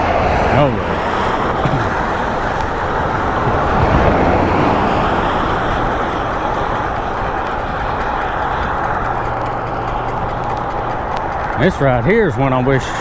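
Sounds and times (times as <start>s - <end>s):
traffic noise: 0.0s - 13.0s
wind and road noise: 0.0s - 13.0s.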